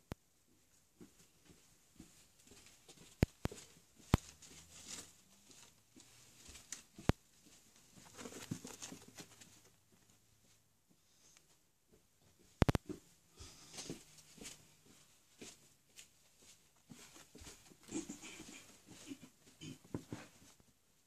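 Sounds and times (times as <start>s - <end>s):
dog pattering on carpet: 0.5s - 10.6s, 11.4s - 20.8s.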